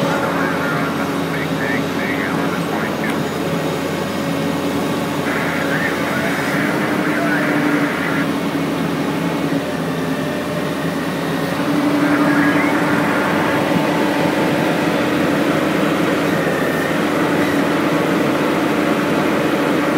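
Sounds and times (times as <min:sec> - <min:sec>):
excavator engine and hydraulics: 0:00.0 - 0:19.9.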